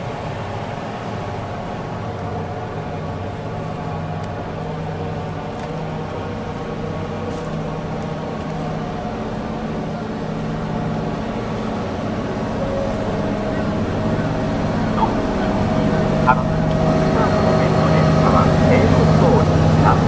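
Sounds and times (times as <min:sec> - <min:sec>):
train equipment droning hum: 0:00.0 - 0:20.0.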